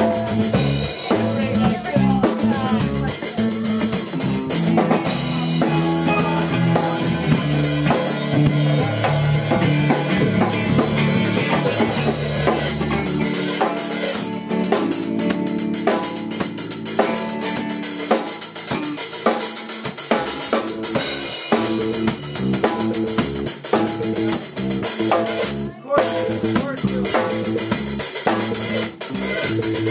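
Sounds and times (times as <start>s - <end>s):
low bass notes: 0.0s - 17.7s, 20.6s - 29.9s
live band playing: 0.0s - 29.9s.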